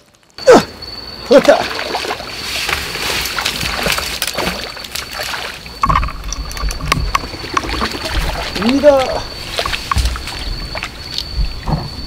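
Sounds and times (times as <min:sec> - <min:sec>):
water sloshing: 0:01.5 - 0:12.0.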